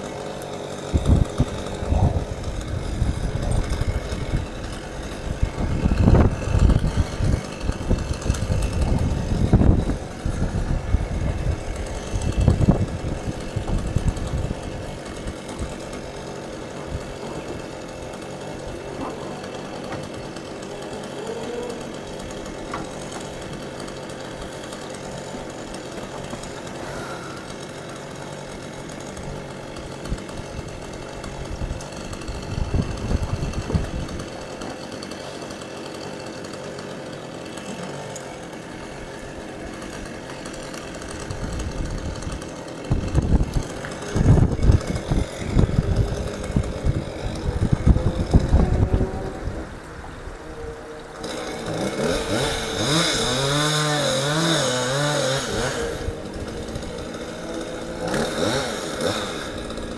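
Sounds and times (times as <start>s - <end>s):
chainsaw idling: 0.0s - 59.9s.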